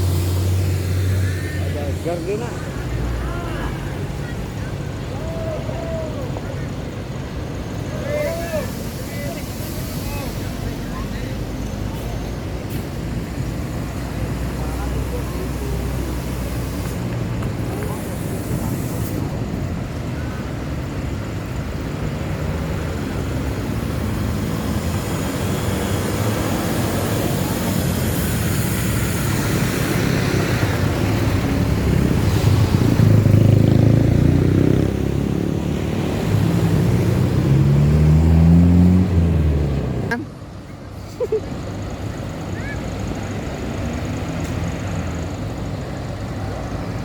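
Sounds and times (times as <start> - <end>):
bus engine passing: 0.0 - 47.0
road traffic rumble: 0.0 - 47.0.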